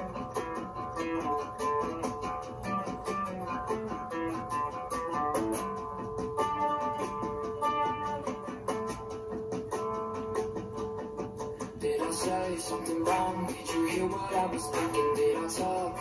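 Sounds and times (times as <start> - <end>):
picked guitar melody: 0.0 - 16.0.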